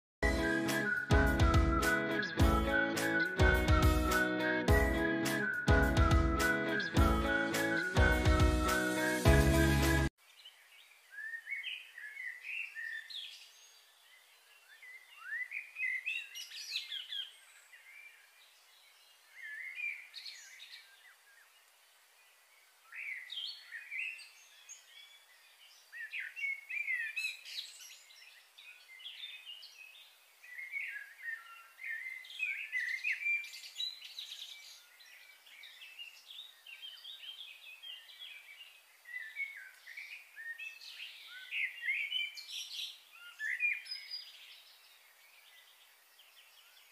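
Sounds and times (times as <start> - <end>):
songbirds chirping: 0.2 - 46.9
faint outdoor hiss: 7.3 - 46.9.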